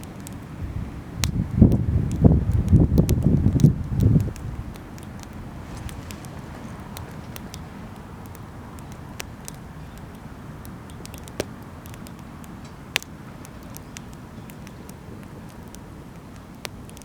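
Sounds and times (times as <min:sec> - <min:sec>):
steady low rumble: 0:00.0 - 0:16.2
campfire crackling: 0:00.0 - 0:17.0
sharp pops of burning wood: 0:00.0 - 0:17.0.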